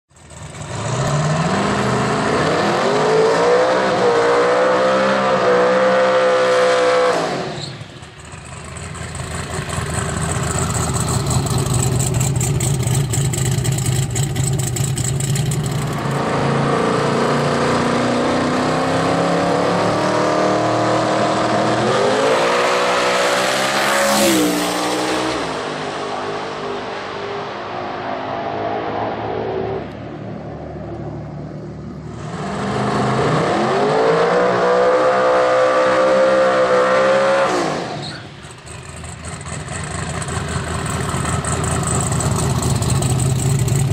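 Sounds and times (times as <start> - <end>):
drag car engine revving: 0.2 - 43.9.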